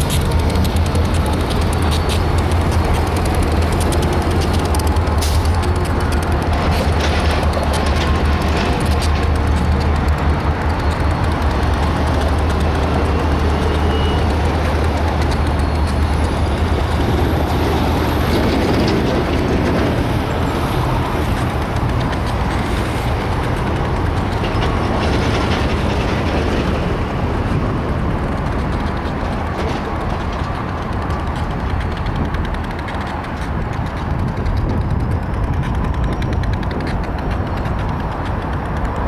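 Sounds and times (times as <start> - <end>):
locomotive engine drone: 0.0 - 39.0.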